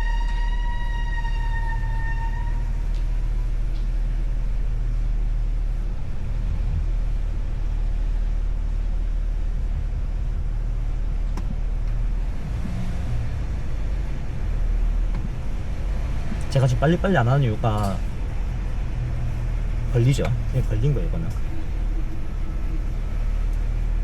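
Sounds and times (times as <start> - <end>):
suv engine low rumble: 0.0 - 24.0.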